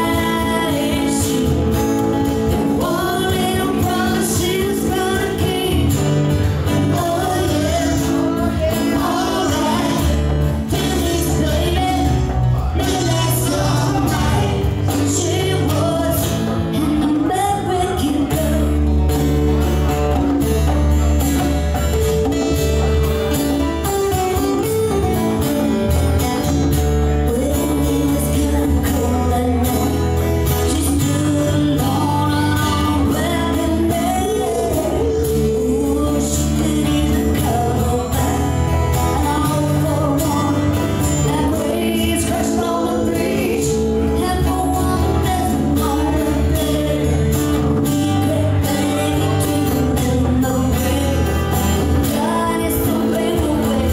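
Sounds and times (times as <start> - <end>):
person singing: 0.0 - 19.4, 24.0 - 53.9
bass line: 0.0 - 53.9
congas: 0.0 - 53.9
strummed acoustic guitars: 0.0 - 53.9.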